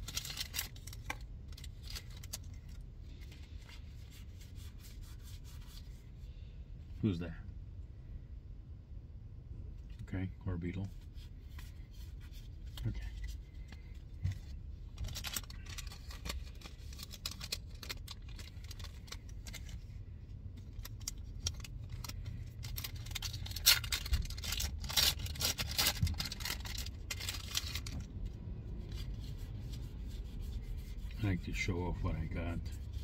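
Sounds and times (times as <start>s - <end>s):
trading cards rustling and scraping: 0.0s - 6.0s, 10.8s - 33.0s.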